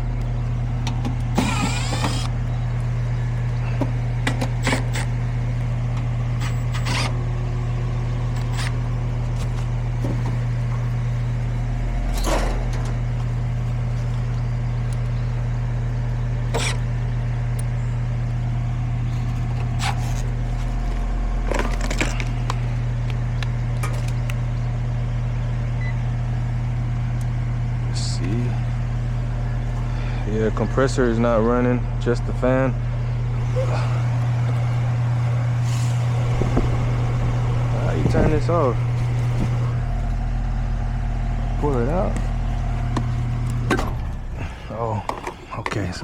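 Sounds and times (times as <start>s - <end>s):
air conditioner fan humming: 0.0s - 46.0s.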